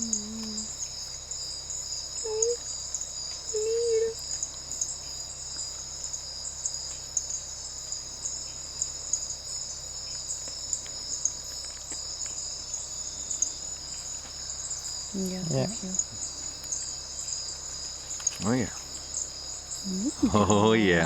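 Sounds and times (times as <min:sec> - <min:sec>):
insect chorus shrilling: 0:00.0 - 0:21.0.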